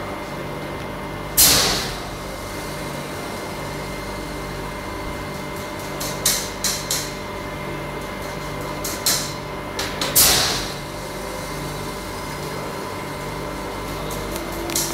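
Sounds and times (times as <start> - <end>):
machinery hum: 0.0 - 14.9.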